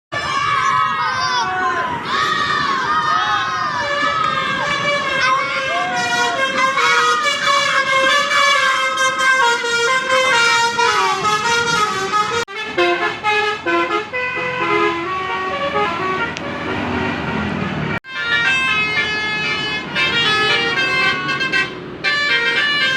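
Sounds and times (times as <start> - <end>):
bus multi-tone air horn melody: 3.8 - 22.9.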